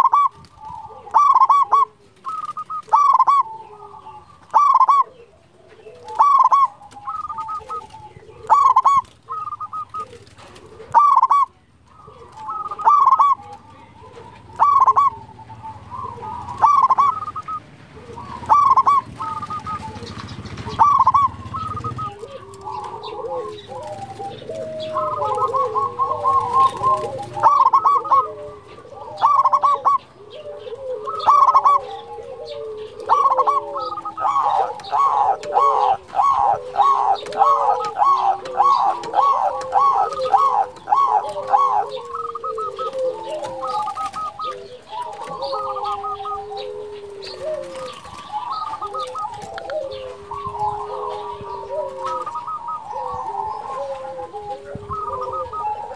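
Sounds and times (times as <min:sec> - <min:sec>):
dove cooing: 0:00.0 - 0:55.9
low wavering bird call: 0:00.0 - 0:55.9.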